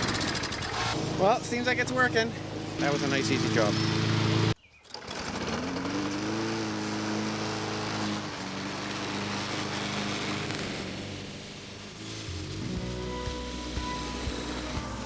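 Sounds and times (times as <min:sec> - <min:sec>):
lawn mower engine: 0:00.0 - 0:15.0.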